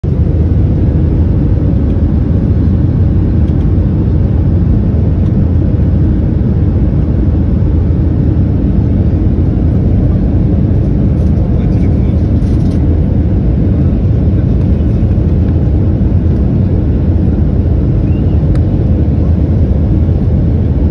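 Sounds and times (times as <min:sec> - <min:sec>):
jet cabin engine rumble: 0:00.0 - 0:20.9.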